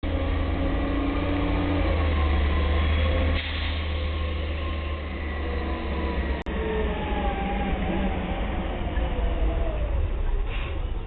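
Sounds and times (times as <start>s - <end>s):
garbage truck engine drone: 0.0s - 11.0s.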